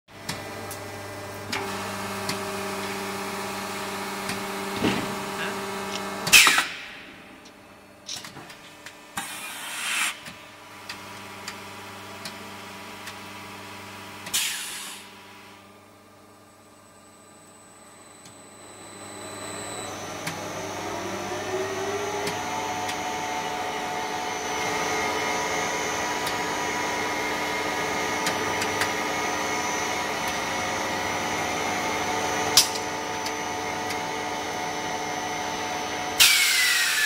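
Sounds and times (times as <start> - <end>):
pump and motor hum: 0.1 - 7.0, 7.9 - 37.0.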